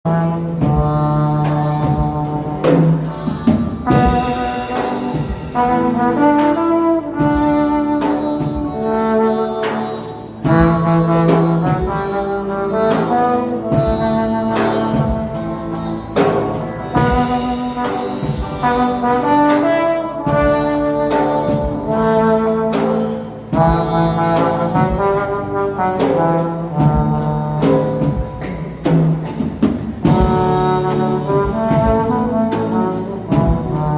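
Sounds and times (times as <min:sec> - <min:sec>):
trombone melody: 0:00.0 - 0:33.9
backing track with steady beat: 0:00.1 - 0:33.9.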